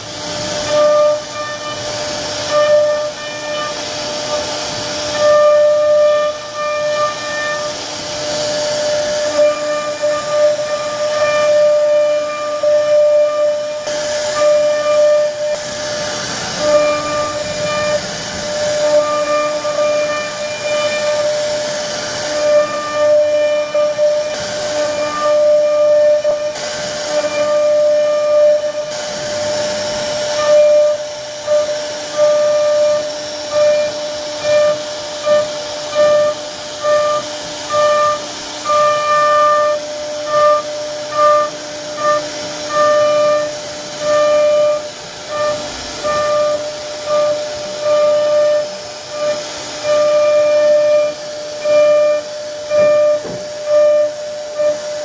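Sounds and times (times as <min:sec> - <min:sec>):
bit cutting wood hiss: 0:00.0 - 0:55.0
router spindle whine: 0:00.0 - 0:55.0.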